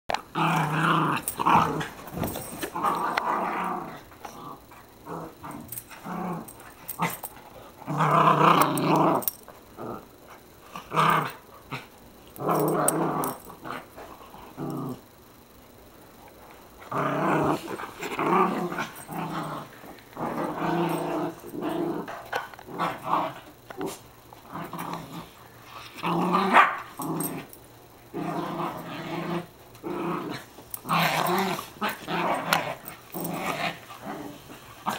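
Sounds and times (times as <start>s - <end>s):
dogs growling: 0.1s - 15.2s, 16.7s - 34.9s.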